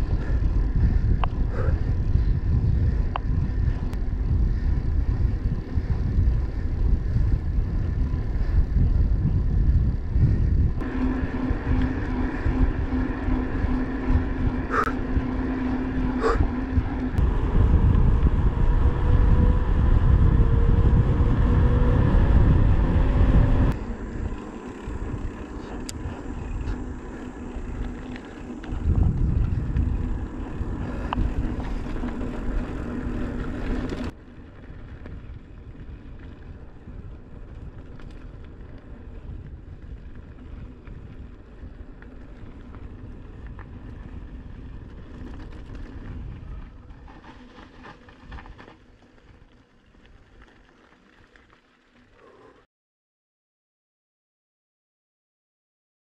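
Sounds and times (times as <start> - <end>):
vehicle engine: 0.0 - 52.1
road noise: 0.0 - 52.6.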